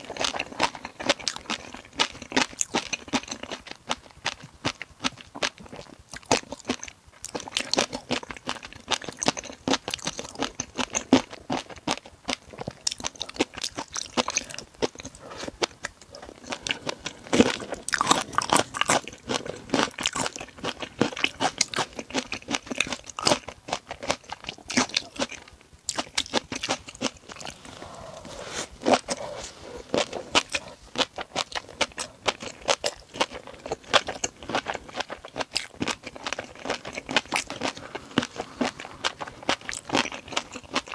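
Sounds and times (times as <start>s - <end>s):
chewing crunchy shrimp: 0.0s - 40.9s.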